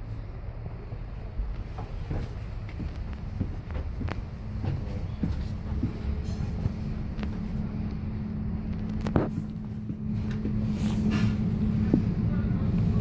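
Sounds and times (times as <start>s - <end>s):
constant hum: 0.0s - 13.0s
train interior rumble: 0.0s - 13.0s.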